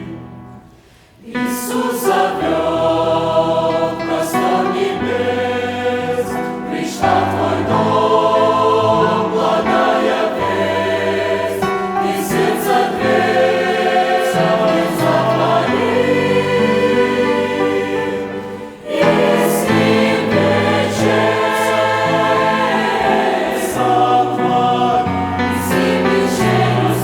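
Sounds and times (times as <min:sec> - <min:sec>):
church choir singing a hymn: 0:00.0 - 0:27.0.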